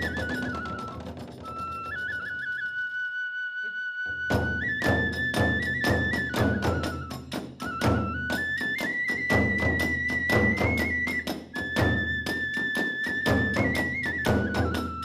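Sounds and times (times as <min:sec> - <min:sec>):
drums: 0:00.0 - 0:02.3, 0:04.2 - 0:15.0
bamboo flute melody: 0:00.0 - 0:15.0.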